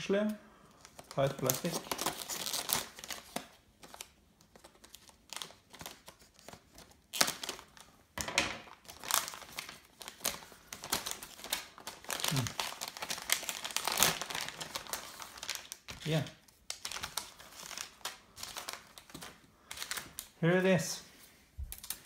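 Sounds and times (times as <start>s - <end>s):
plastic bag crinkling: 0.8s - 7.9s, 8.6s - 20.4s.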